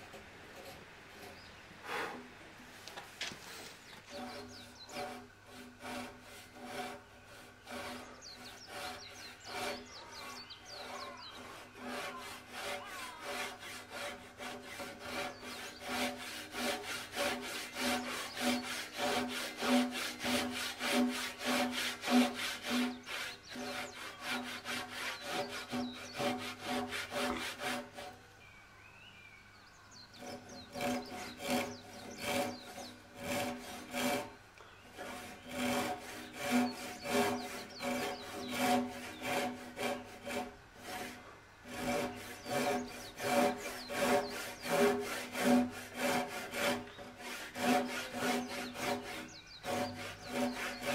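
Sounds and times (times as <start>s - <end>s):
hand saw cutting wood: 0.0s - 28.2s, 30.0s - 50.9s.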